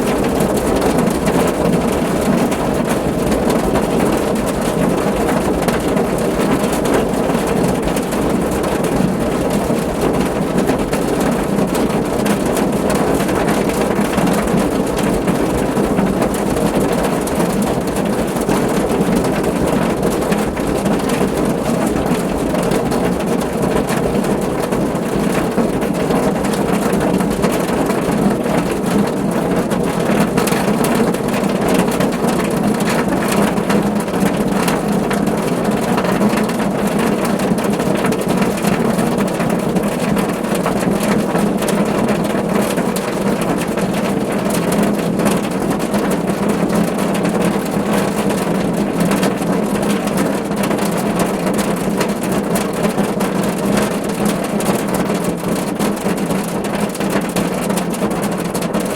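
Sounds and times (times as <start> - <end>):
rain on a car roof: 0.0 - 58.9.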